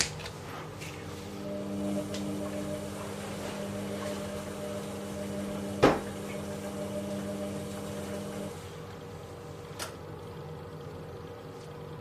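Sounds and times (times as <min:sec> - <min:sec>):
washing machine drum motor humming: 0:00.0 - 0:12.0.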